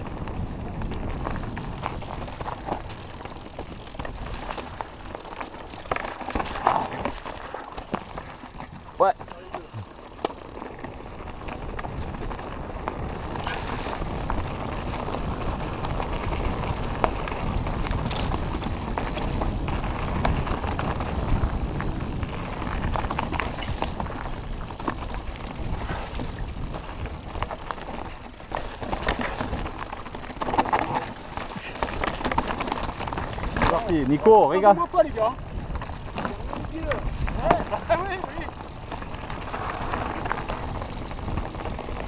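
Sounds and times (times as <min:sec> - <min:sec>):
wind noise on microphone: 0:00.0 - 0:09.0, 0:09.7 - 0:42.0
bike rattling and clicking: 0:00.0 - 0:42.0
tyres on gravel: 0:00.0 - 0:42.0.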